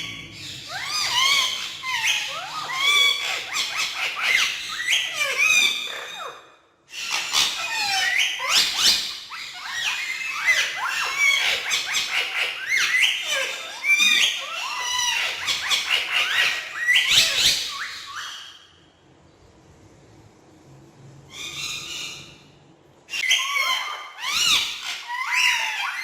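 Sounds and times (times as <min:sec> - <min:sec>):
parakeets squawking and chirping: 0:00.0 - 0:18.8, 0:21.3 - 0:26.0.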